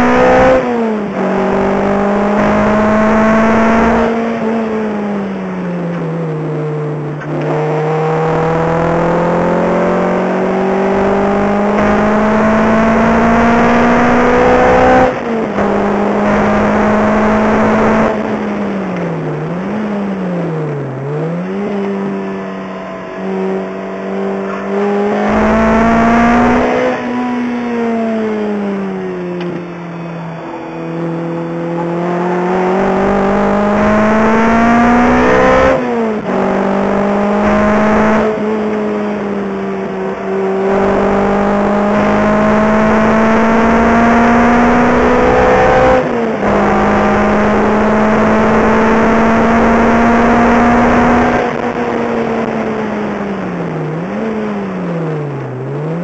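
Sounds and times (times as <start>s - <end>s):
car engine revving from cabin: 0.0s - 56.0s.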